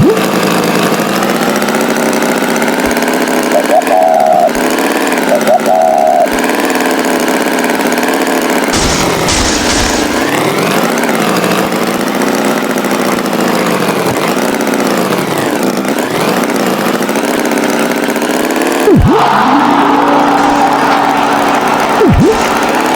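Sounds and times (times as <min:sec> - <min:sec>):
tractor engine revving: 0:00.0 - 0:22.9.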